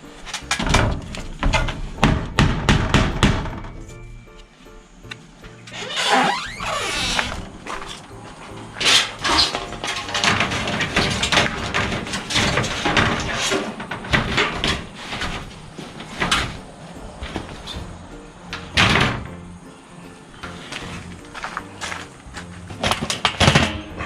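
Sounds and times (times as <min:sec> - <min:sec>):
construction knocks and clatter: 0:00.0 - 0:04.1, 0:06.9 - 0:19.6, 0:20.4 - 0:24.0
background music: 0:00.0 - 0:24.0.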